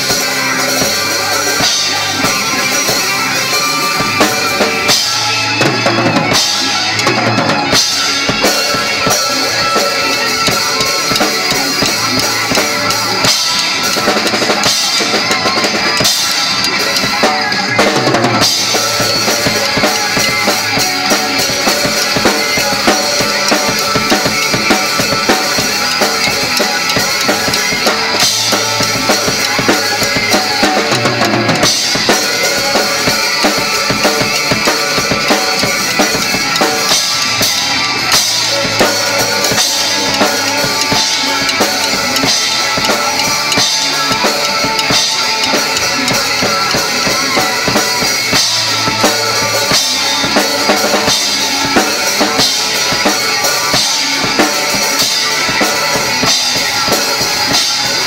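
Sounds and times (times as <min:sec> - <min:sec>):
drum kit rock beat: 0:00.0 - 0:58.0
recorded rock song: 0:00.0 - 0:58.0.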